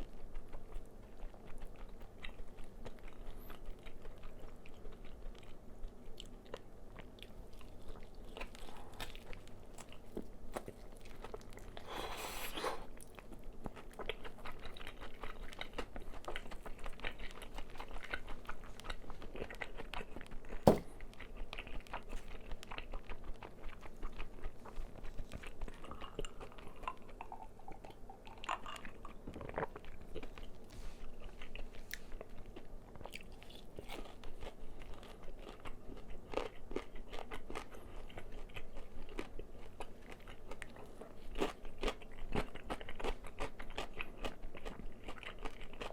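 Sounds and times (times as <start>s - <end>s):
crunching fried chicken: 0.0s - 30.6s, 31.2s - 45.9s.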